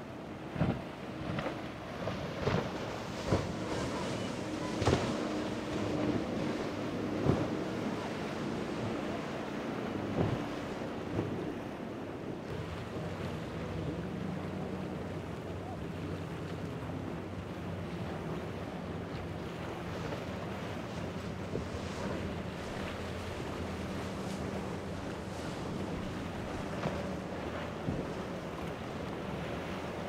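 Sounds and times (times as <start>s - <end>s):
boat engine drone: 0.0s - 30.0s
spray and breaking waves: 0.1s - 30.0s.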